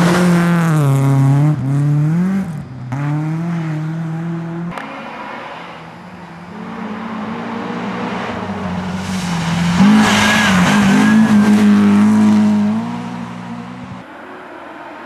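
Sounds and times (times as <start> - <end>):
rally car engine passing: 0.0 - 15.0.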